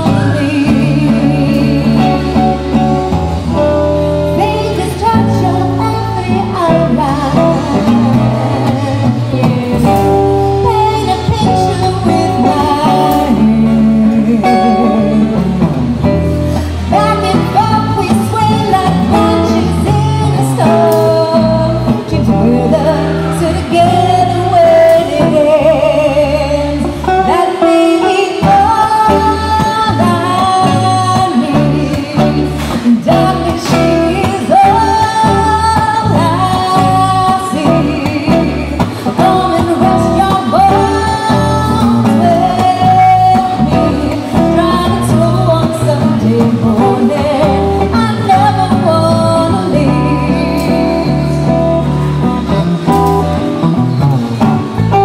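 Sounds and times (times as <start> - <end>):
woman singing: 0.0 - 53.4
acoustic guitar rhythm: 0.0 - 55.0.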